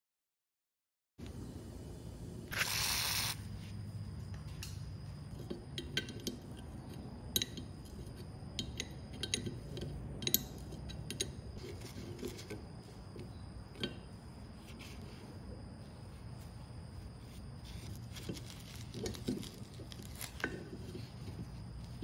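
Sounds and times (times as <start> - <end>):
steady low hum: 1.2 - 22.0.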